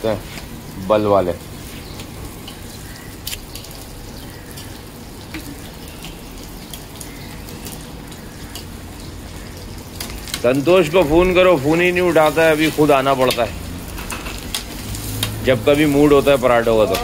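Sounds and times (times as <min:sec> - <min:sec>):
flatbread sizzling with pops: 0:00.0 - 0:17.0.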